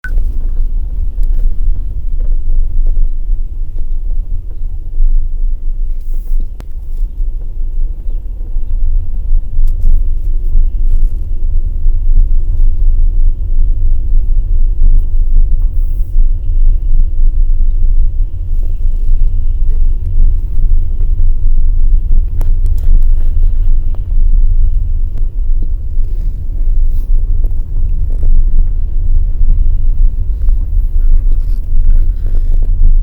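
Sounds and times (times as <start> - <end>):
low road rumble inside car: 0.0 - 33.0.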